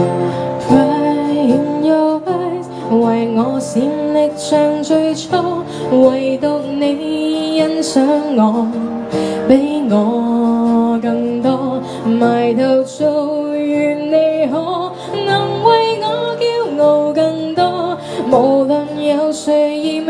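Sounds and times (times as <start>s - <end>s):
acoustic guitar: 0.0s - 20.0s
woman singing into a microphone: 0.0s - 20.0s.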